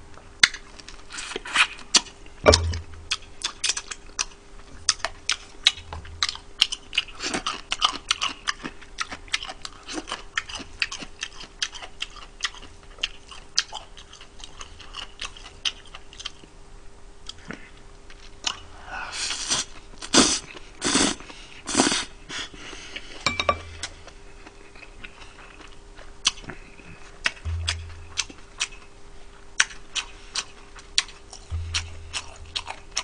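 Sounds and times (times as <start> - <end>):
faint steady hum: 0.0 - 33.0
crunchy chewing of fried chicken: 0.3 - 2.4, 3.1 - 23.2, 23.8 - 27.5, 28.2 - 33.0.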